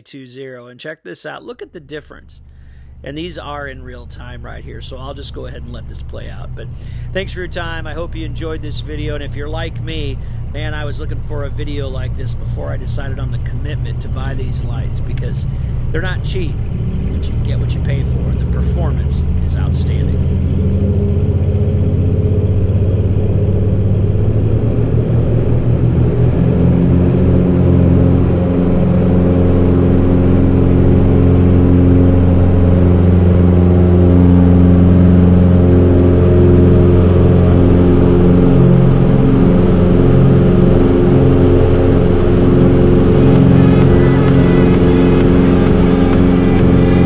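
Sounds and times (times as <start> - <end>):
propeller plane engine at takeoff: 2.0 - 47.0.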